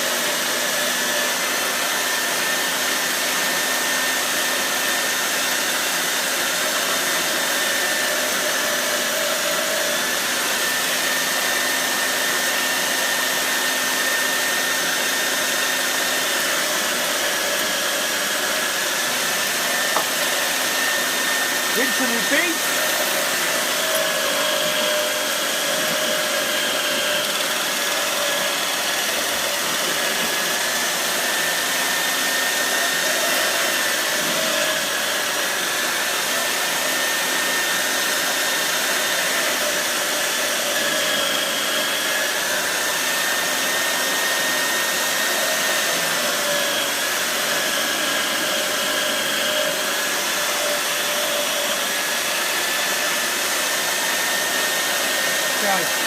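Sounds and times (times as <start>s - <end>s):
electric sander running: 0.0s - 56.0s.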